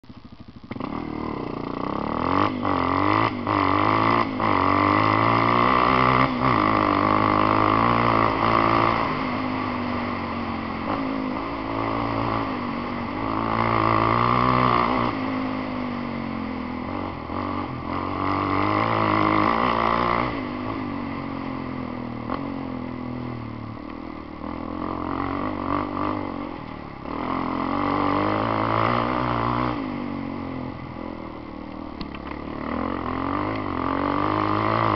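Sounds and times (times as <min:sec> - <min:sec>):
quad bike engine revving: 0:00.1 - 0:34.9.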